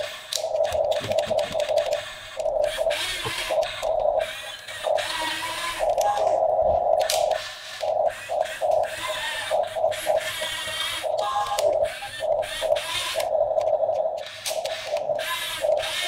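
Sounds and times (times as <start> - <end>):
small electric motors whirring: 0.0 - 16.0.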